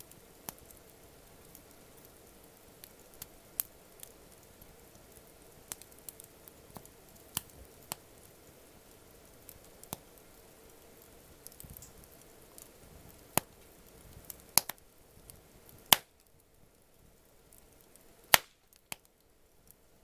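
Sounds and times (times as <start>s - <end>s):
campfire crackling: 0.0s - 20.0s
faint hiss: 0.0s - 20.0s.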